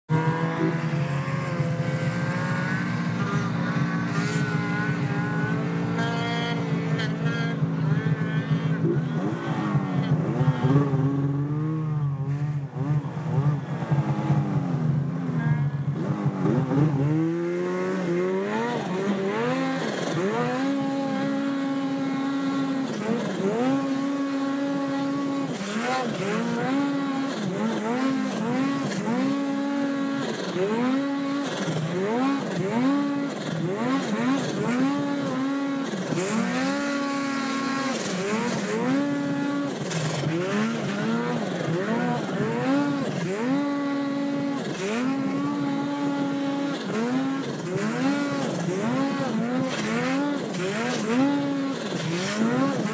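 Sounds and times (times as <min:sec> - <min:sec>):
snowmobile engine revving: 0:00.0 - 0:52.9.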